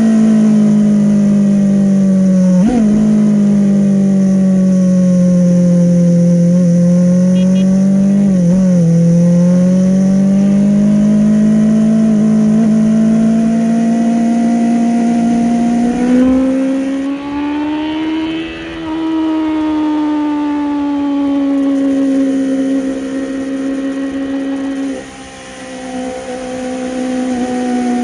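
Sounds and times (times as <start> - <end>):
motorcycle engine at high revs: 0.0 - 28.0.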